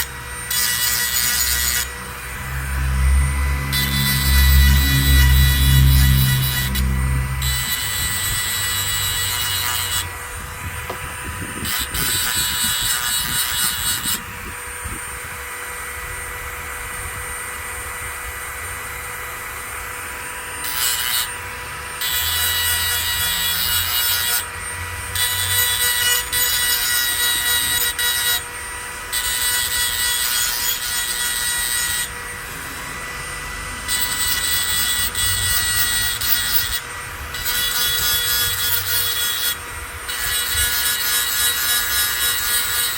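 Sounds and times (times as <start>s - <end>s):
metal rasping against metal: 0.0s - 15.0s, 20.6s - 42.9s
steady high whine: 0.0s - 23.1s, 24.4s - 42.8s.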